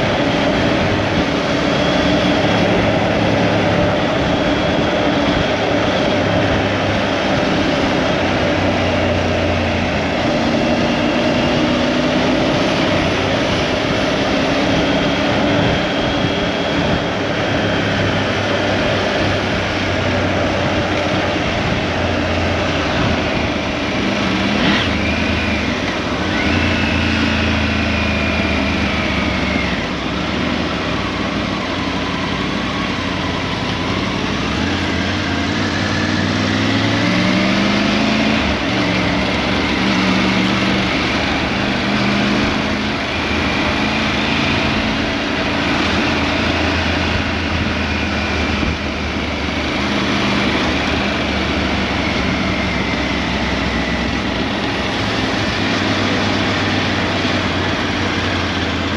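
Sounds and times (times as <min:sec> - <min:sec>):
motorcycle engine revving: 0:00.0 - 0:58.9
steady rushing noise: 0:00.0 - 0:58.9.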